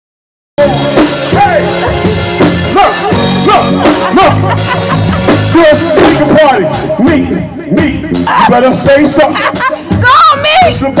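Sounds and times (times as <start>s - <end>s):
loud music with percussive beat: 0.6s - 11.0s.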